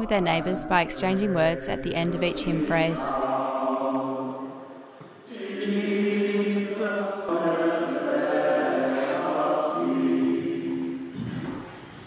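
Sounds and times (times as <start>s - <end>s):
choir singing a hymn: 0.2s - 11.2s.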